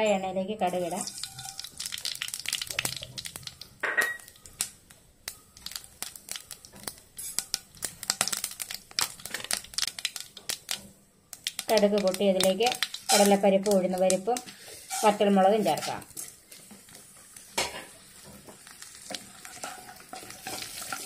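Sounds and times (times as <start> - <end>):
mustard seeds popping in oil: 0.7 - 21.0.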